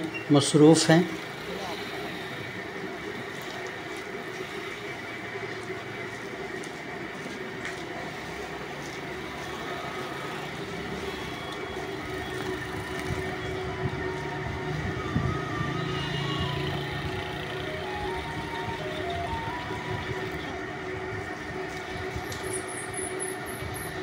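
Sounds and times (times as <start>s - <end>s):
traffic hum: 0.0s - 24.0s.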